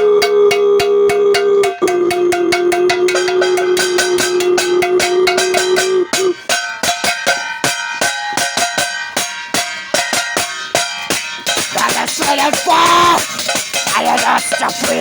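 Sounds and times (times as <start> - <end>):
held note: 0.0 - 9.1, 11.1 - 15.0
ringing tones: 0.0 - 15.0
fast percussion hits: 0.3 - 15.0.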